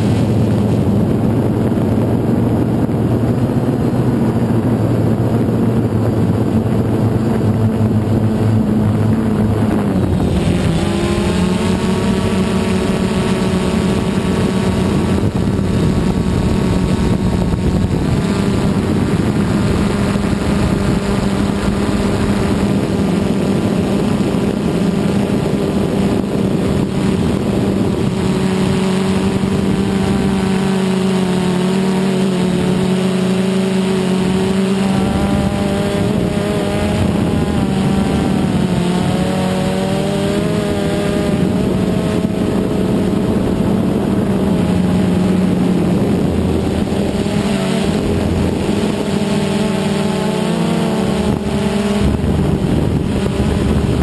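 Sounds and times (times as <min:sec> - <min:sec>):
drone propellers whirring: 0:00.0 - 0:54.0.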